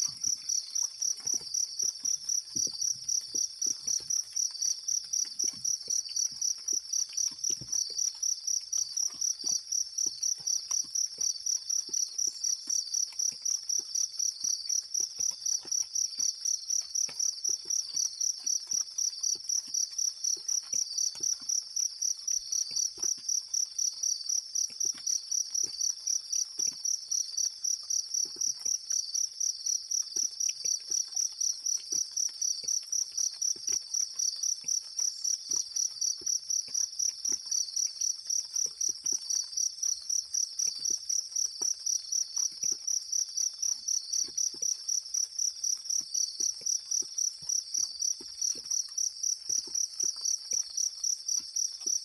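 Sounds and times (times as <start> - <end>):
cricket chirping: 0.0 - 52.0
faint ticks: 0.0 - 52.0.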